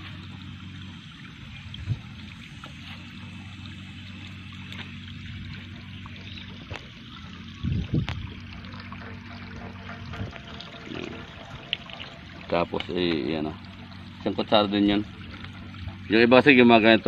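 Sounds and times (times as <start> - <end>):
liquid trickling into tank: 0.0 - 17.0
steady low hum: 0.0 - 17.0.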